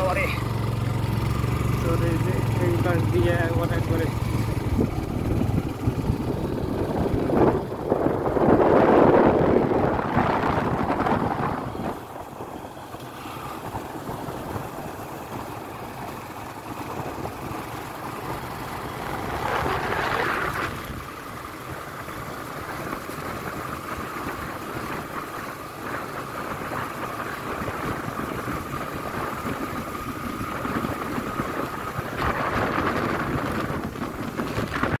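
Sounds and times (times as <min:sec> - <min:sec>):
motorcycle running: 0:00.0 - 0:35.0
wind and road noise: 0:00.0 - 0:35.0.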